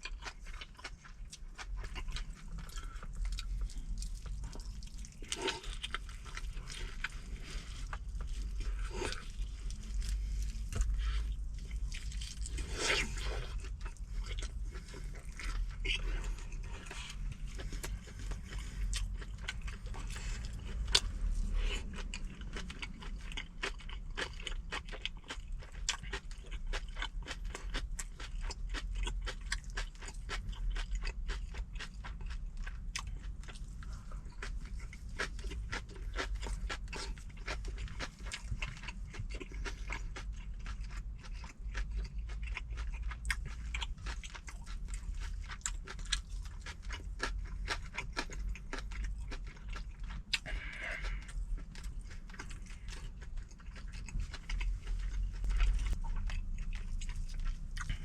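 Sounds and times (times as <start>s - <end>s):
chewing and crunching food: 0.0s - 58.0s
steady low rumble: 0.0s - 58.0s.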